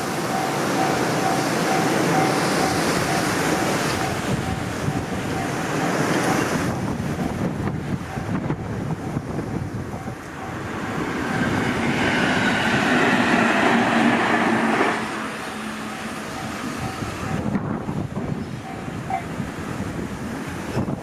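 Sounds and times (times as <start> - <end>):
crossing warning bell dinging: 0.0 - 19.7
electric train running past: 0.0 - 21.0.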